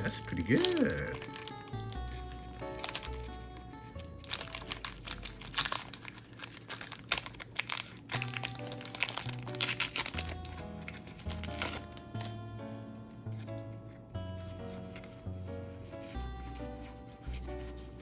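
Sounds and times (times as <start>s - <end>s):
foil wrapper crinkling and tearing: 0.0s - 18.0s
light background music: 0.0s - 18.0s.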